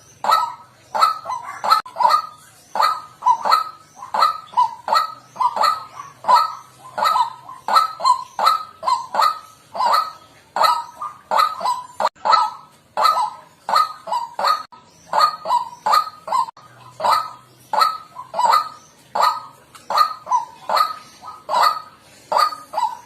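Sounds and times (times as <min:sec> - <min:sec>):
waterhen croaking calls: 0:00.0 - 0:23.0.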